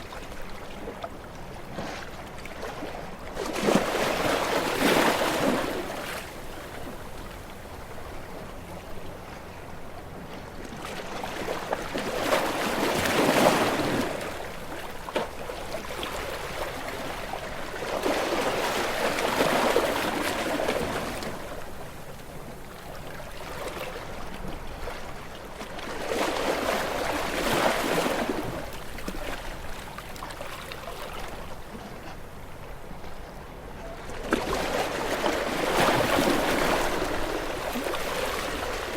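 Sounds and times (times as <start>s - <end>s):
ocean waves breaking on rocks: 1.6s - 8.5s, 10.7s - 38.9s.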